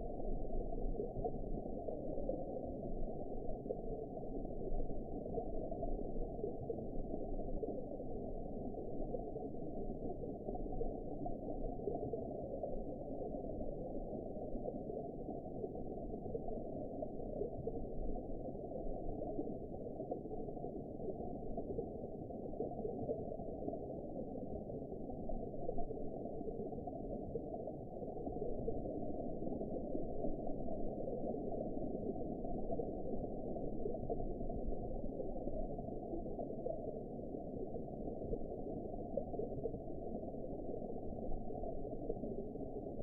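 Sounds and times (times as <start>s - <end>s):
underwater rumble and gurgle: 0.0s - 43.0s.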